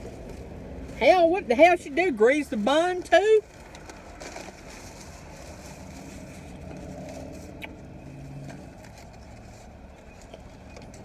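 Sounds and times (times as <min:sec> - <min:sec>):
car engine idling: 0:00.0 - 0:11.0
sandwich wrappers crinkling: 0:00.0 - 0:11.0.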